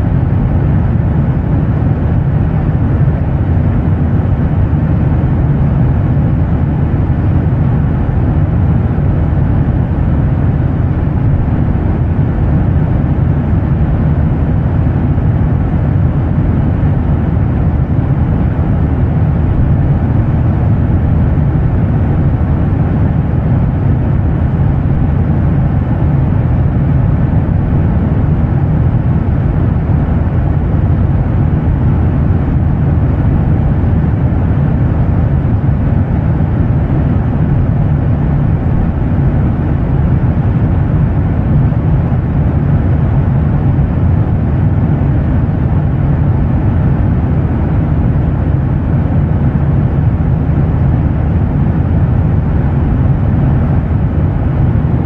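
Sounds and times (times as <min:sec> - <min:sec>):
jet engine drone: 0:00.0 - 0:55.0.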